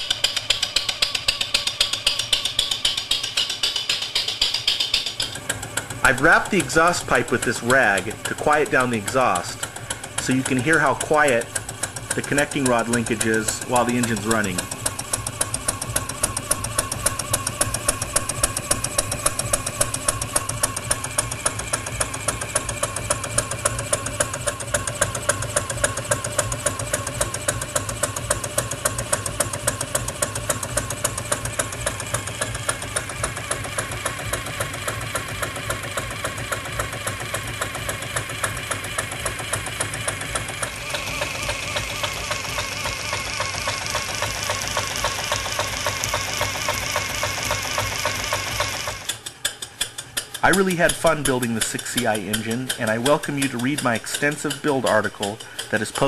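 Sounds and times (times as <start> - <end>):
model steam engine running: 0.0 - 56.0.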